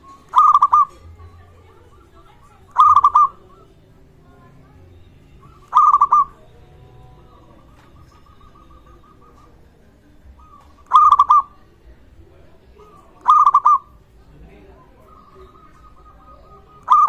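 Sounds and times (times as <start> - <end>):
dove singing soft notes: 0.0 - 17.0
dove staccato cooing: 0.0 - 17.0.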